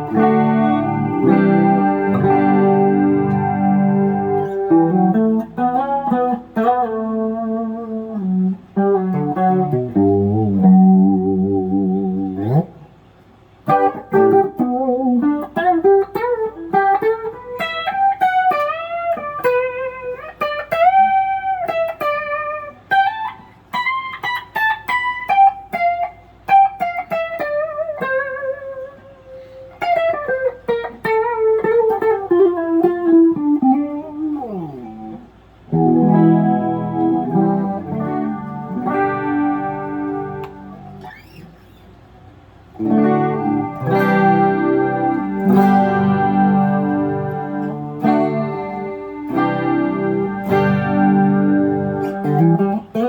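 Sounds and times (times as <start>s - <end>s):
clean electric guitar lick: 0.0s - 53.0s
guitar chords ringing: 0.0s - 53.0s.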